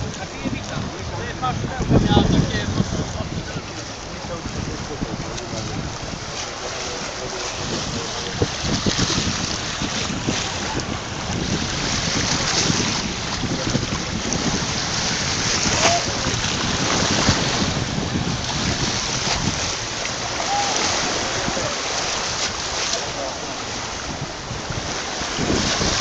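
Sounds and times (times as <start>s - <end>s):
sea waves washing: 0.0s - 26.0s
wind buffeting microphone: 0.0s - 26.0s.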